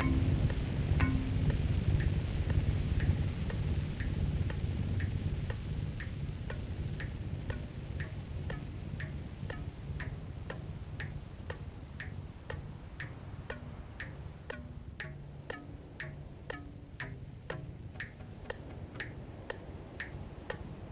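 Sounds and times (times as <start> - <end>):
ticking clicks with ring: 0.0 - 20.9.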